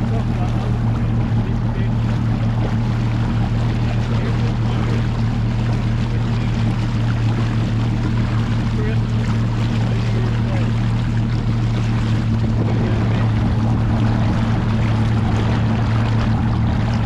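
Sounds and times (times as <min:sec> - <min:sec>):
boat motor humming: 0:00.0 - 0:17.0
water and wind hiss: 0:00.0 - 0:17.0.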